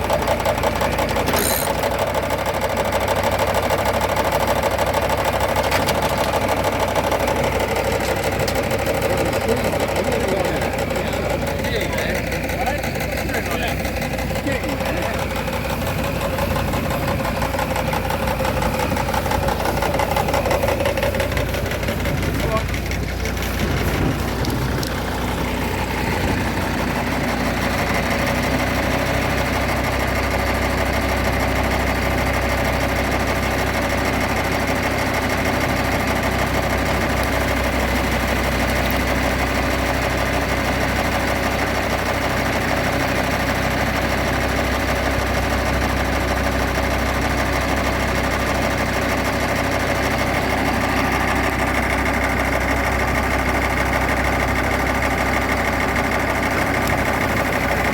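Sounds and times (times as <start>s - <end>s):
farm machinery engine running: 0.0s - 57.9s.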